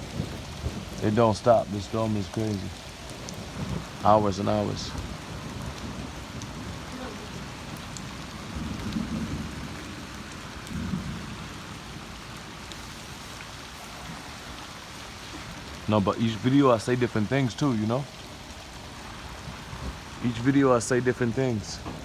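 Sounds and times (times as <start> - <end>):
heavy rain falling: 0.0 - 22.0
thunder rumbling: 0.0 - 22.0.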